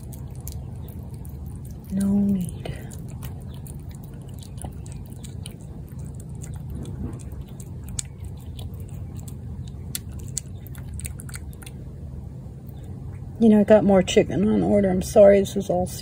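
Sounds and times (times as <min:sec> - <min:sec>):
cat chewing wet food: 0:00.0 - 0:13.3
steady low hum: 0:00.0 - 0:16.0.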